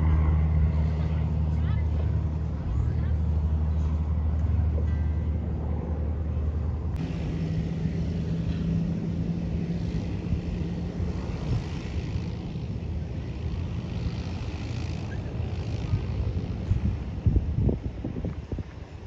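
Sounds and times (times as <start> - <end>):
low hum: 0.0 - 18.3
propeller engine drone: 0.0 - 19.0.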